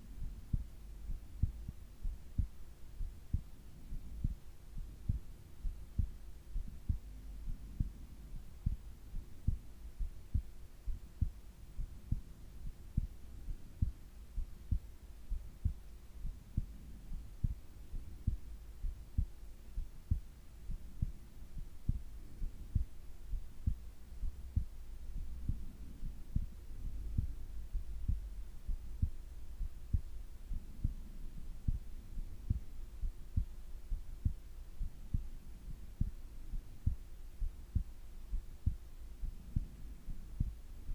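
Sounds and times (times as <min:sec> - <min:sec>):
faint steady hum: 0:00.0 - 0:40.9
heartbeat thumps: 0:00.0 - 0:40.9.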